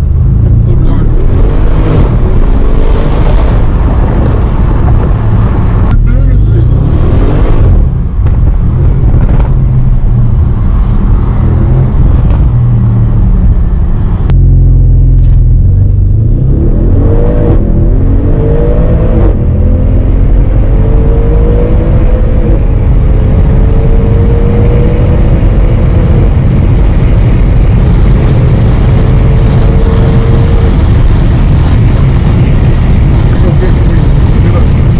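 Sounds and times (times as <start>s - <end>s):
car engine accelerating through gears: 0.0s - 34.9s.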